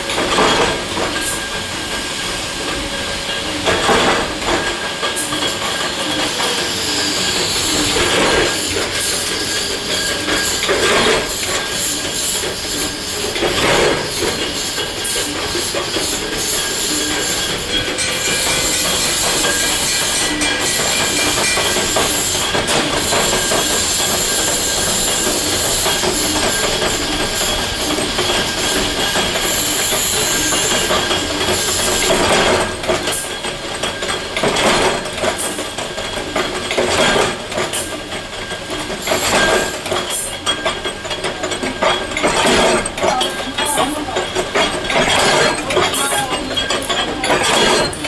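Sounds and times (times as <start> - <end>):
sharp metal clanks and knocks: 0.0 - 1.6, 7.6 - 48.0
industrial machinery grinding and squealing: 0.0 - 48.0.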